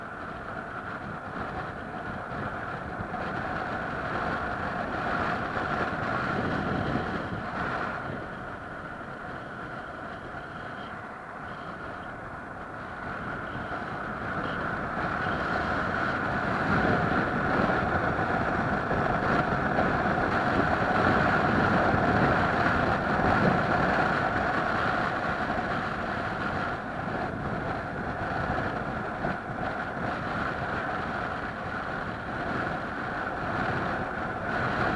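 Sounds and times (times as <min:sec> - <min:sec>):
vehicle engine droning whine: 0:00.0 - 0:34.9.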